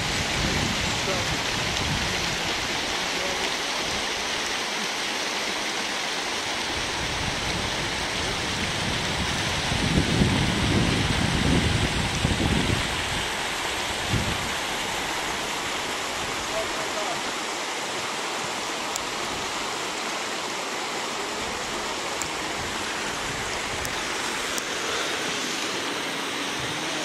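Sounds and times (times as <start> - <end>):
water rushing over pool rims: 0.0 - 27.0.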